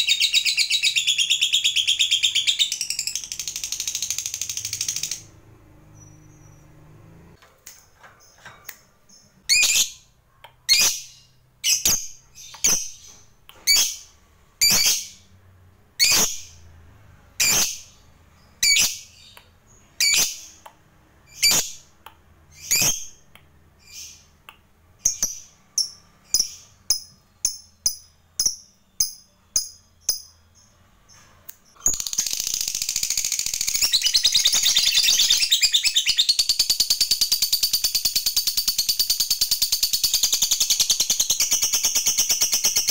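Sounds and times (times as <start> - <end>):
lovebird chirping and chattering: 0.0 - 6.8, 8.2 - 15.3, 15.9 - 16.7, 17.4 - 42.9.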